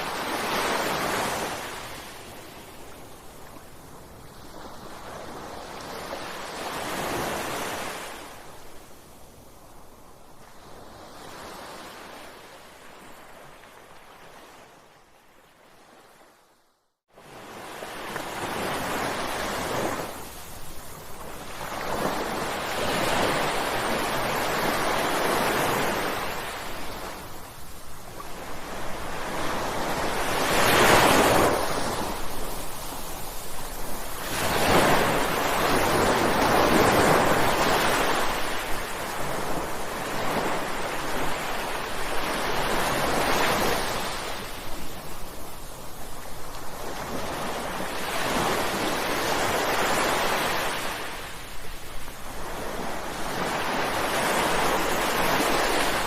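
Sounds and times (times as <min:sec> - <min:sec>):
ocean waves breaking: 0:00.0 - 0:08.5, 0:17.2 - 0:45.5, 0:46.2 - 0:56.0.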